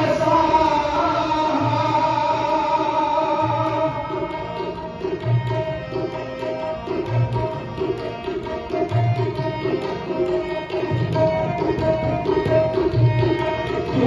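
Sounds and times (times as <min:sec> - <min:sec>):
harmonium chords: 0:00.0 - 0:14.0
tabla playing a steady rhythm: 0:00.0 - 0:14.0.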